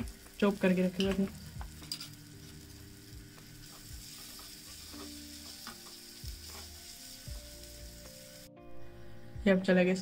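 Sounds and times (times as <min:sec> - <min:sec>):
food sizzling in a frying pan: 0:00.0 - 0:08.6.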